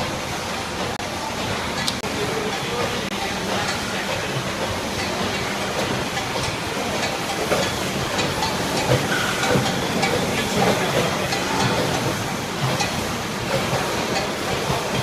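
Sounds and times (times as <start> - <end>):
faint light conveyor ticks: 0.0 - 15.0
machine noise hiss: 0.0 - 15.0.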